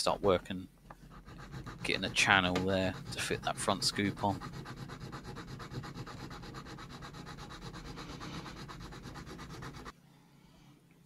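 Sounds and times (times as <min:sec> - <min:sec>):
needle file rasping on metal: 0:00.9 - 0:09.9.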